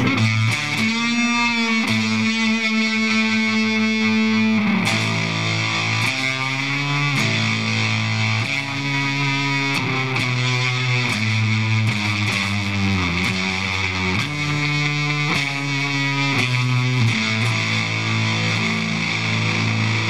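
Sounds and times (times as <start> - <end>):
fuzz-distorted electric guitar: 0.0 - 20.0.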